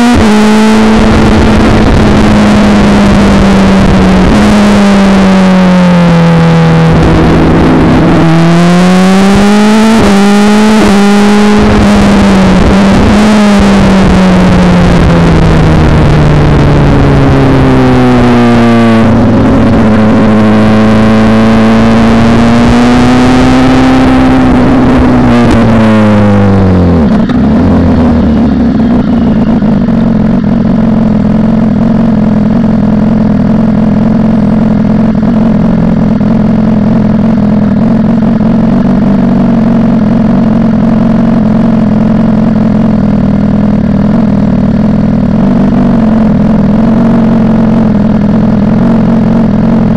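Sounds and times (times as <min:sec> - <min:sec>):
unsilenced motorcycle engine: 0:00.0 - 0:49.9.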